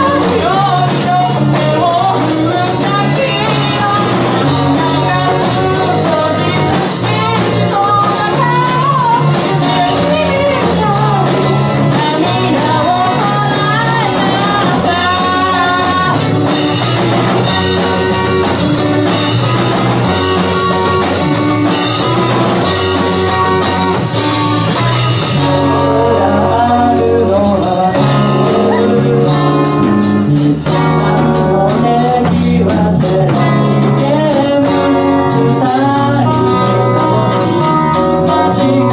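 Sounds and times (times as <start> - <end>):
drum kit: 0.0 - 38.9
electric guitars: 0.0 - 38.9
sliding lead melody: 0.0 - 38.9.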